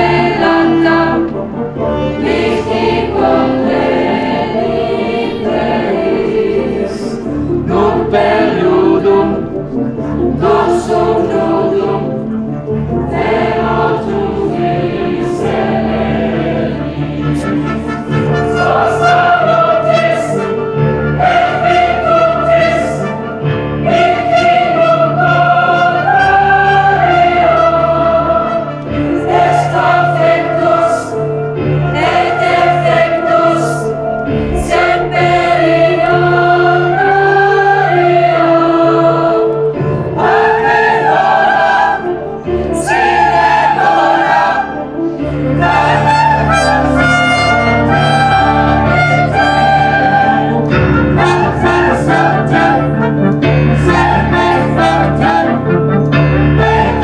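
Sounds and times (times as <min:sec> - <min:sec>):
choir of young voices singing: 0:00.0 - 0:57.0.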